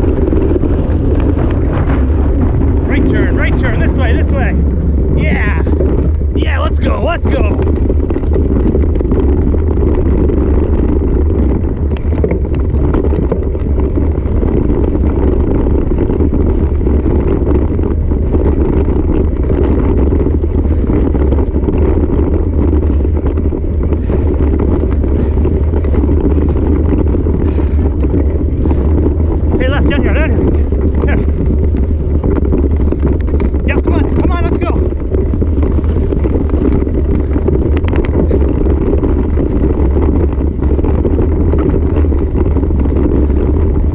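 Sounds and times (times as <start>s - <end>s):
bicycle rattling: 0.0s - 43.9s
wind buffeting microphone: 0.0s - 43.9s.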